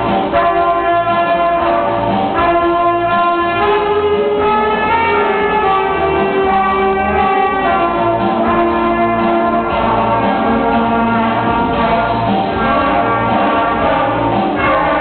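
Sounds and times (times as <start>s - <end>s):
saxophones and horn playing held notes: 0.0s - 15.0s.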